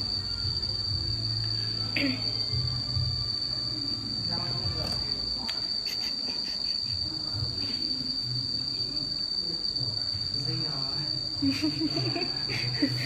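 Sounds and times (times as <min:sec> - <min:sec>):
faint voices: 0:00.0 - 0:13.0
high-pitched whine: 0:00.0 - 0:13.0.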